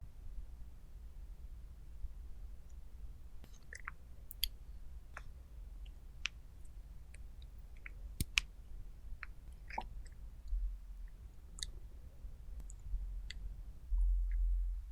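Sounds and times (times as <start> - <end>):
faint low hum: 0.0 - 14.9.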